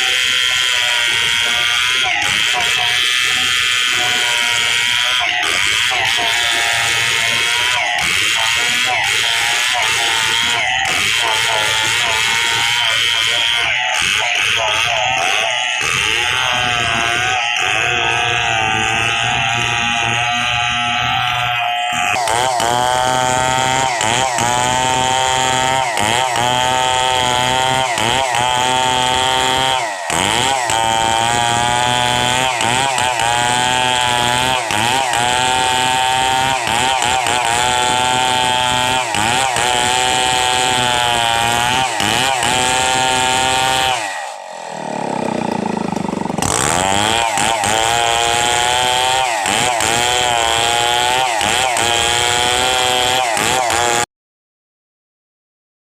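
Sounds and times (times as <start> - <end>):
chainsaw cutting wood: 0.0 - 54.1.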